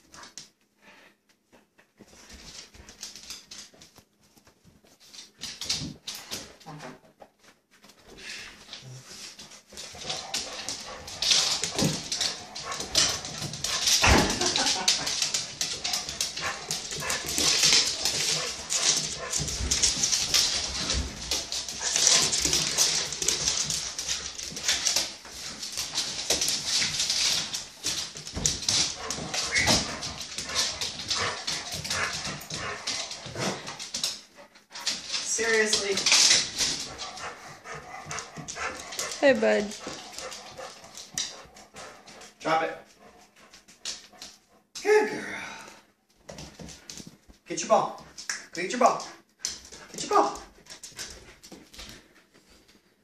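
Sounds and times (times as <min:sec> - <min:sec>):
paws scrabbling on wooden floor: 0:00.0 - 0:44.8, 0:46.1 - 0:53.0.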